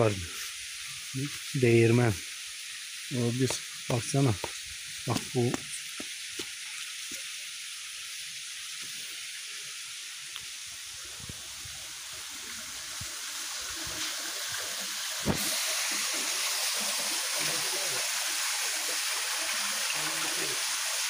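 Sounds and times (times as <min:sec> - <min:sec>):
waterfall spilling into pool: 0:00.0 - 0:21.0.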